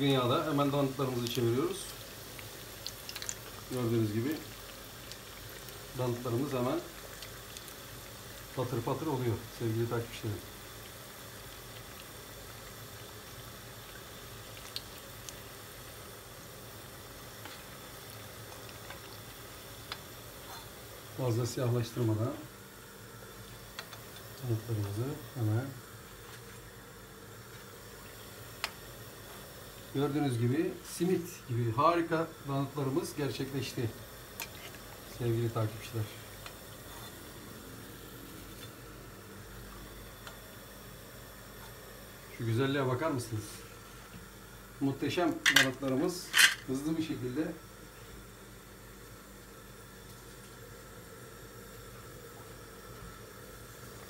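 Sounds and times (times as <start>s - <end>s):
oil sizzling and bubbling: 0.0s - 54.0s.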